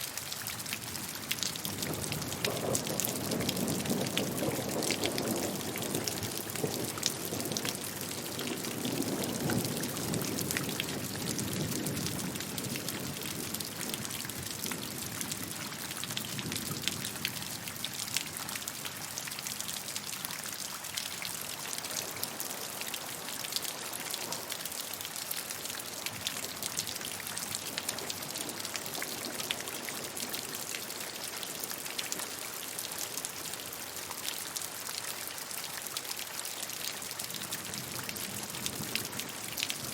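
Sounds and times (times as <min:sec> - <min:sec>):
rain drops ticking on a surface: 0:00.0 - 0:39.9.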